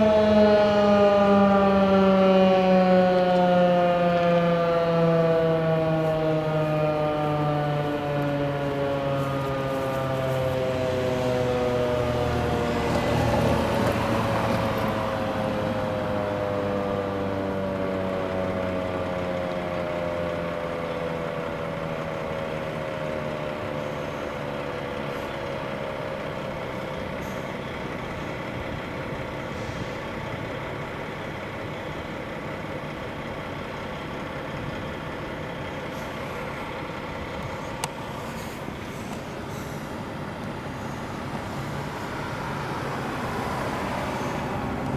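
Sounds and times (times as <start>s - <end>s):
warning siren winding down: 0.0s - 44.9s.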